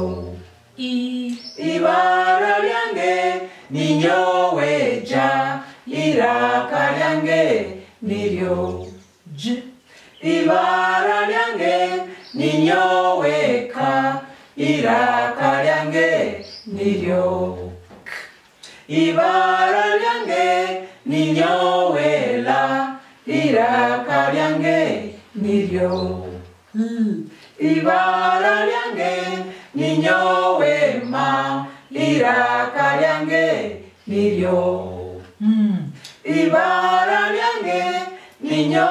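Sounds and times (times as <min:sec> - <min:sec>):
group singing in unison: 0:00.0 - 0:26.6, 0:27.2 - 0:38.9.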